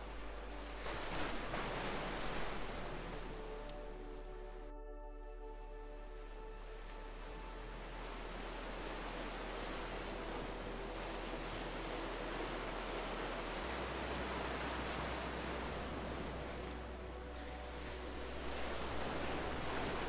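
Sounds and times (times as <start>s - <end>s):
ocean waves: 0.0s - 4.0s, 6.9s - 20.0s.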